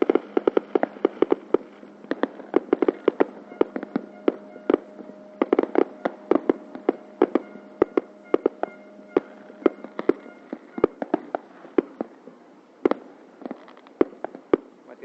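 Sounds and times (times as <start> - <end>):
faint steady hum: 0.0 - 15.0
fireworks bangs and pops: 0.0 - 15.0.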